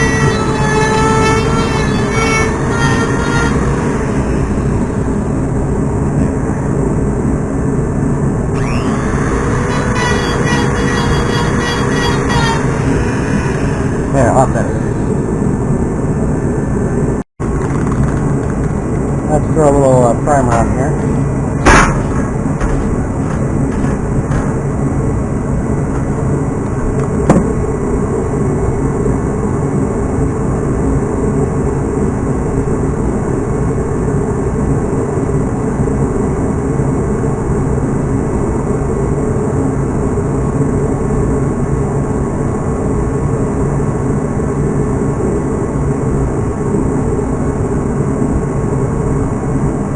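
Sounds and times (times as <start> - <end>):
low machine rumble: 0.0 - 49.9.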